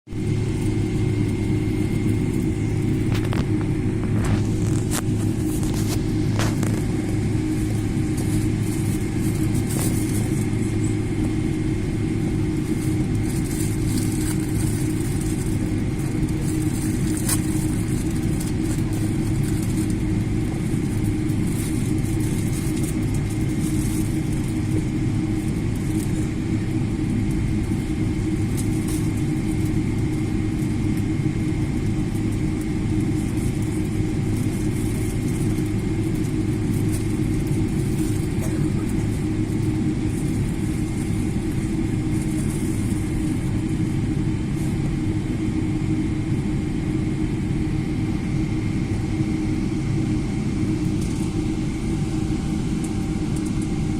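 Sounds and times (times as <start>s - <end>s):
airliner machinery drone: 0.1s - 53.9s
high whine: 0.1s - 53.9s.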